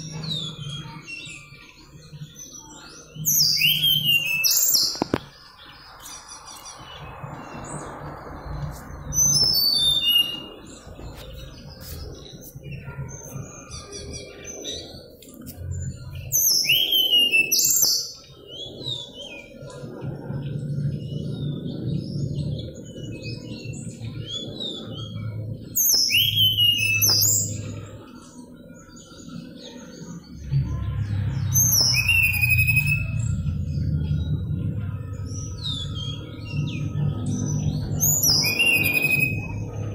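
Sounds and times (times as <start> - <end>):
bird whistling song: 0.0 - 19.8, 20.4 - 39.9
bird chirps and twitters: 0.0 - 39.9
low background rumble: 4.2 - 16.7, 18.1 - 39.9.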